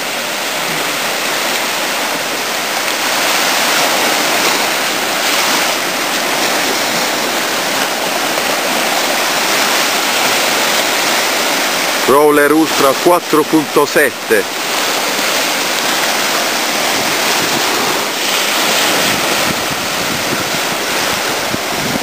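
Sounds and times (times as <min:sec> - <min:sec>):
surf washing up sandy shore: 0:00.0 - 0:22.0.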